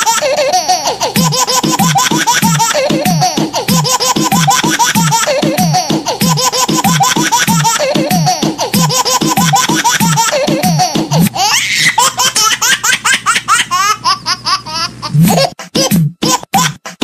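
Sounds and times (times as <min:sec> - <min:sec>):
high-pitched laughter: 0:00.0 - 0:17.0.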